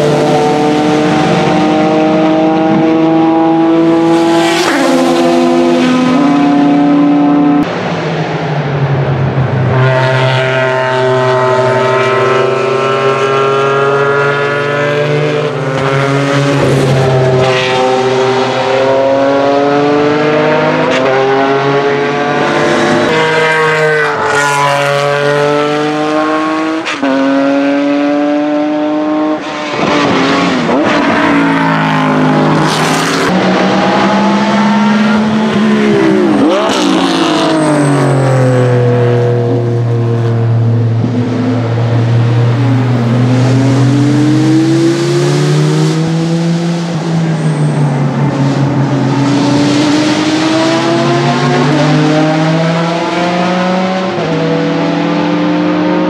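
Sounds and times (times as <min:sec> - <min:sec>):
race car engines at high revs: 0:00.0 - 0:56.0.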